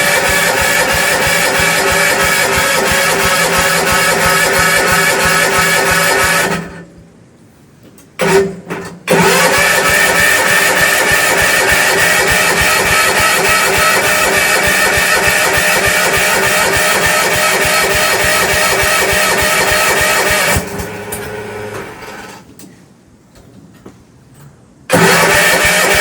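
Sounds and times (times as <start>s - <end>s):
engine sputtering and starting: 0.0s - 6.8s, 8.2s - 22.4s, 24.9s - 26.0s.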